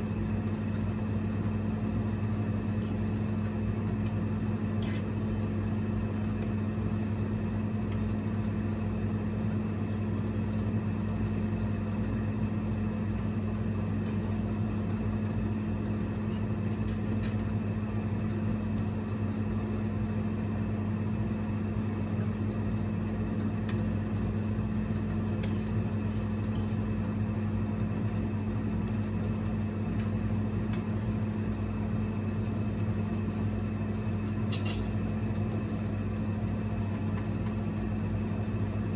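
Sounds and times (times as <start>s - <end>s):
induction cooktop humming: 0.0s - 38.9s.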